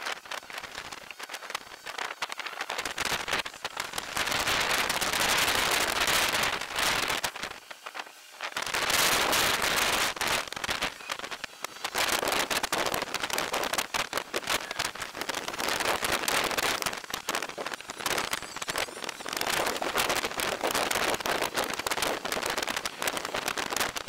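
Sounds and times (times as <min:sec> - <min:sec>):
stormy weather crackling on microphone: 0:00.0 - 0:24.0.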